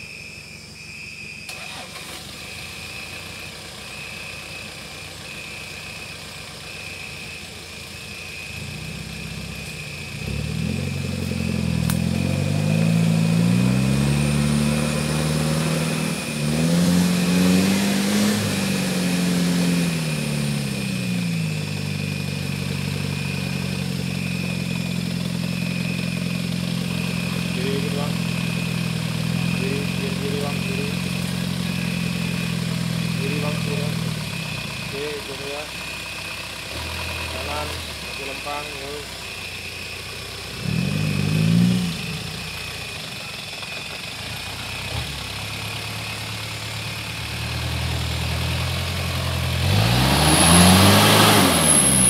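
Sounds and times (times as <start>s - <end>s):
off-road vehicle engine revving: 1.5s - 52.0s.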